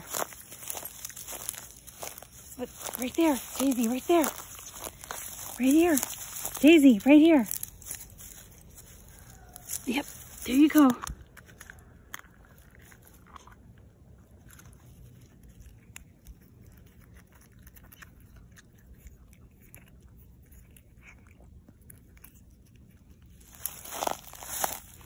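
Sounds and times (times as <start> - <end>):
puppy chewing and licking: 0.0 - 23.4.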